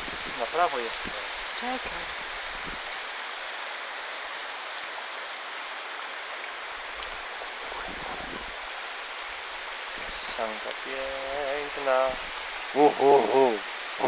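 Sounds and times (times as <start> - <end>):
waterfall splashing: 0.0 - 14.0.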